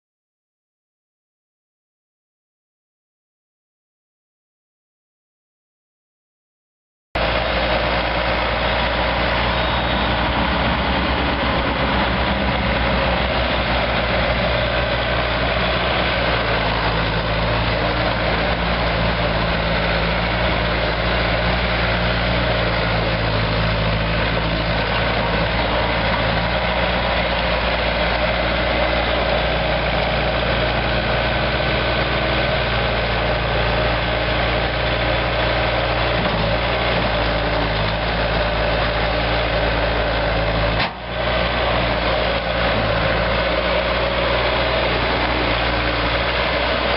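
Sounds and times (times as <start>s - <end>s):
diesel engine running: 7.2s - 46.9s.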